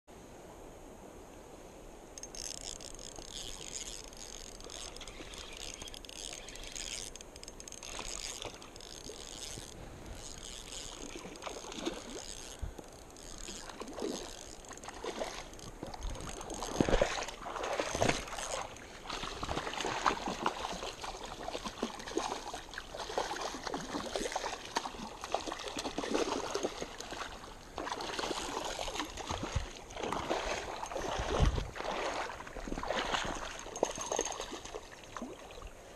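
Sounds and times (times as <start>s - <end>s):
river water lapping on bank: 2.2s - 35.9s.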